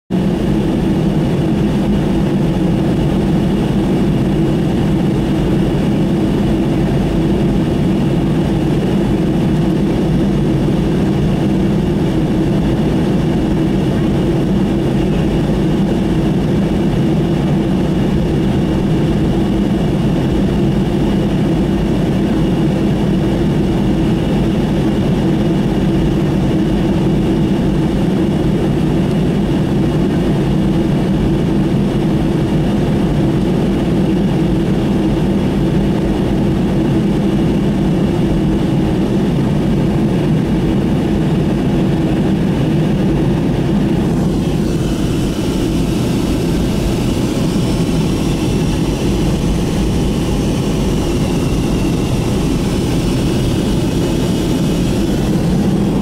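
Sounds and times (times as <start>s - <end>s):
jet engine cabin hum: 0.1s - 56.0s.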